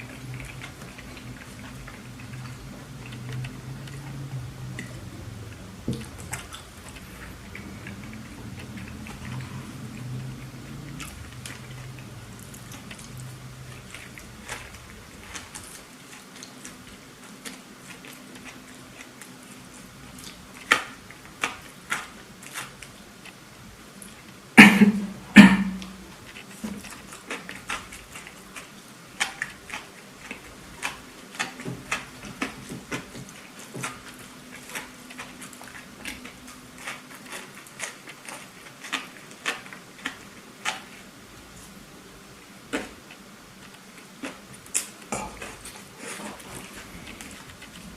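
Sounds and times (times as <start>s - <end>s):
chewing with wet mouth clicks: 0.0s - 23.4s, 25.4s - 41.9s, 42.6s - 47.9s.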